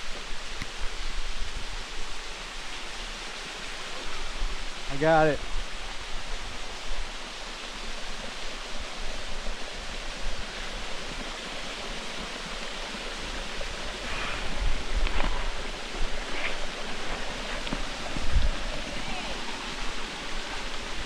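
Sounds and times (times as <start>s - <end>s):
waterfall rushing: 0.1s - 21.0s.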